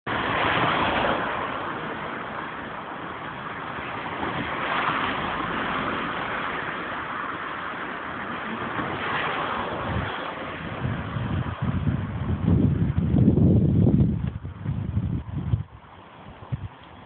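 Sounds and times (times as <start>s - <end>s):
steady rushing noise: 0.1s - 17.0s.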